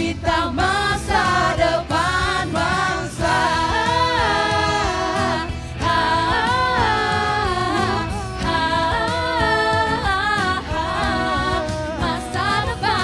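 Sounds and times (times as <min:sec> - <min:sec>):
pop band accompaniment: 0:00.0 - 0:13.0
voices singing long notes: 0:00.0 - 0:13.0.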